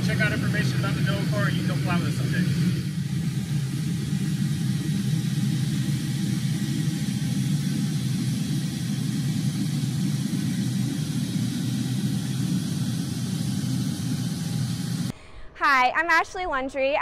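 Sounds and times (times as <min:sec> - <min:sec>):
low machinery rumble: 0:00.0 - 0:15.4.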